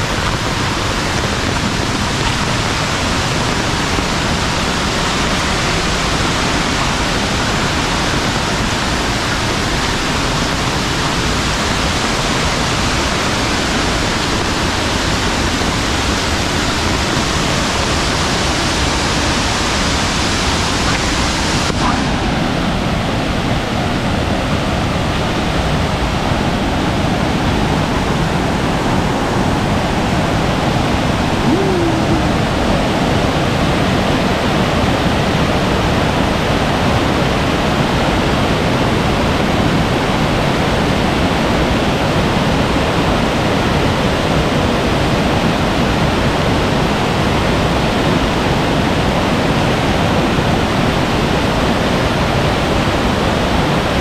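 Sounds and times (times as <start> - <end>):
heavy rain: 0.0 - 54.0
rushing stream water: 0.0 - 54.0.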